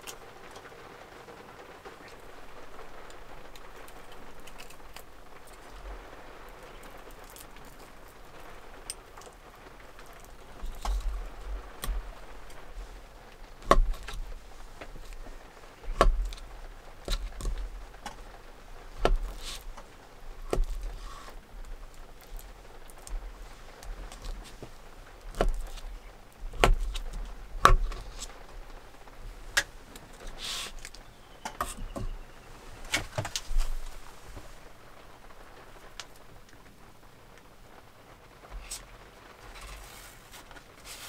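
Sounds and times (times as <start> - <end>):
rain on camper roof: 0.0 - 41.0.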